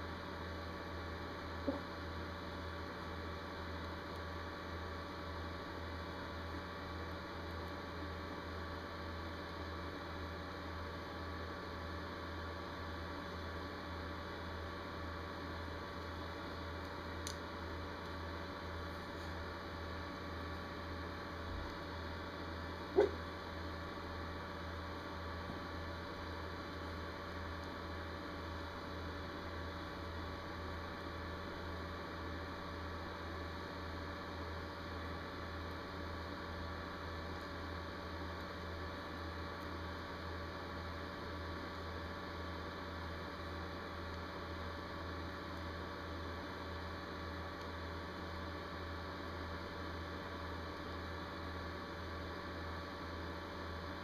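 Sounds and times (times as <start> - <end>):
electrical hum with hiss: 0.0 - 54.0.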